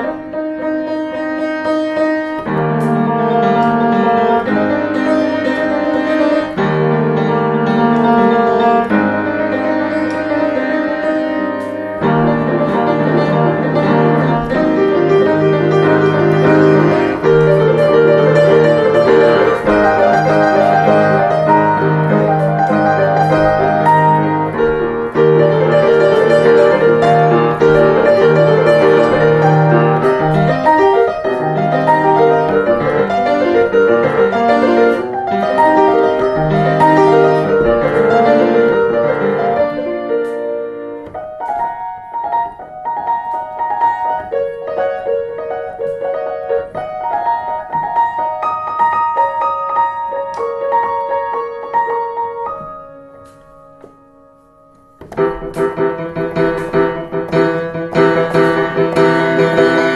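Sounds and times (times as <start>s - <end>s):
grand piano swing piece: 0.0s - 59.9s.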